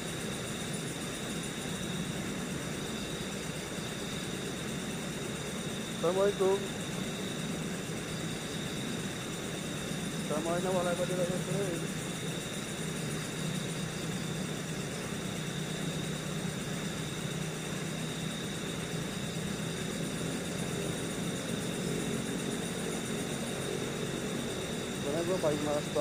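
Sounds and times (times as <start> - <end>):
thin high steady tone: 0.0 - 21.9.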